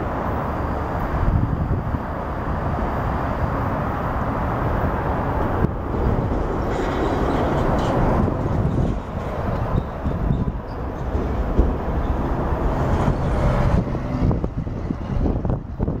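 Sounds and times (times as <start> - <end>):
electric train rumbling: 0.0 - 16.0
road traffic: 0.0 - 16.0.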